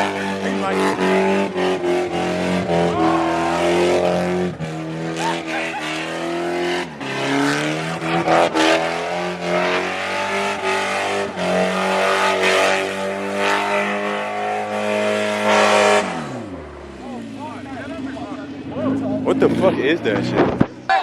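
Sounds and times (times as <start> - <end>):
car engine revving high: 0.0 - 21.0
tyres squealing and skidding: 0.0 - 21.0.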